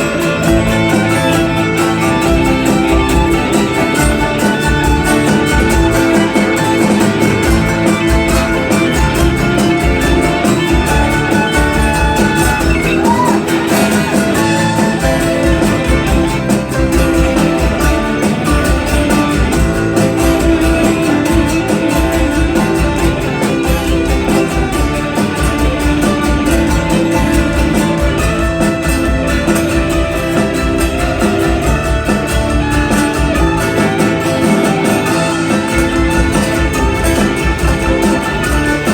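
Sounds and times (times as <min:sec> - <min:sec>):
band playing guitar over beat: 0:00.0 - 0:38.9.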